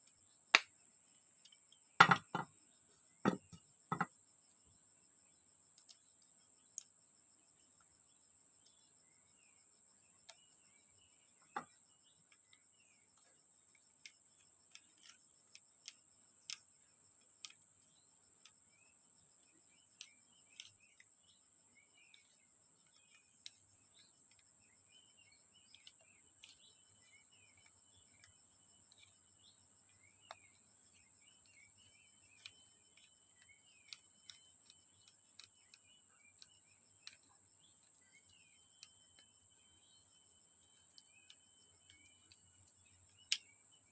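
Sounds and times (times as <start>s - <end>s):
faint chirping: 0.0s - 43.9s.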